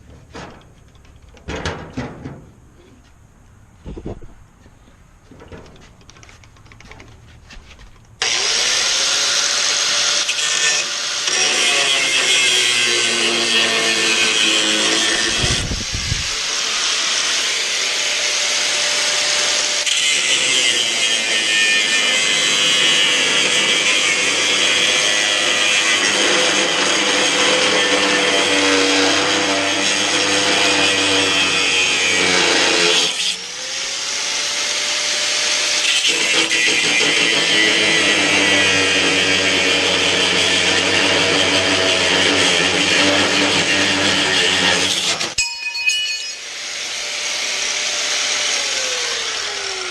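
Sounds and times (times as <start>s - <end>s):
angle grinder cutting steel: 8.2s - 49.9s.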